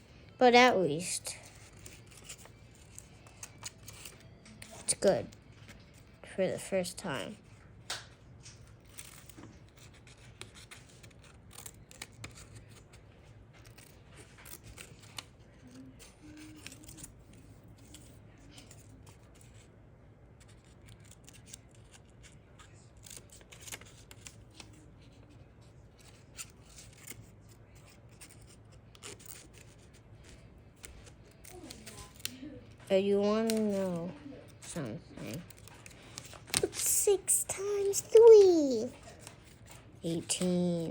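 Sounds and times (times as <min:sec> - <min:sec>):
scratching and clicking on paper: 0:00.7 - 0:19.7, 0:20.3 - 0:40.9.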